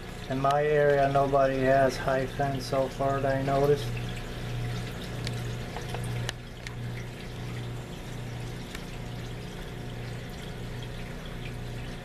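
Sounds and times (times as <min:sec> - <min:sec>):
aquarium water trickling: 0:00.0 - 0:12.0
low electrical hum: 0:00.0 - 0:12.0.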